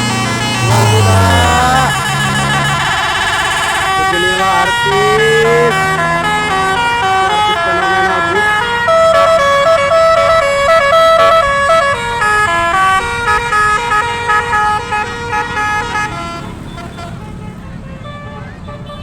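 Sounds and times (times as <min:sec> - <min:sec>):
musical air horns melody: 0:00.0 - 0:16.4.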